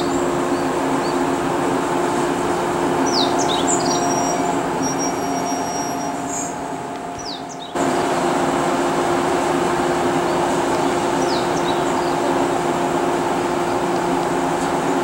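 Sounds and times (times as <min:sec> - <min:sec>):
steady hum: 0:00.0 - 0:15.0
train wheels rumbling on rail: 0:00.0 - 0:15.0.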